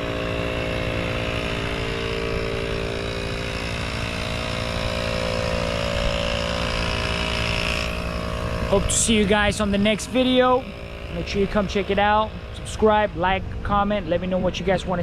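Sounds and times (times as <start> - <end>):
air compressor pulsing: 0.0 - 15.0.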